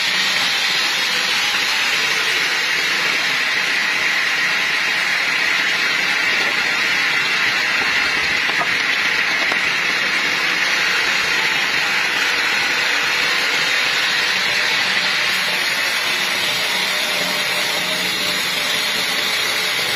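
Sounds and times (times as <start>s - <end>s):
sawmill machinery roaring: 0.0s - 19.9s.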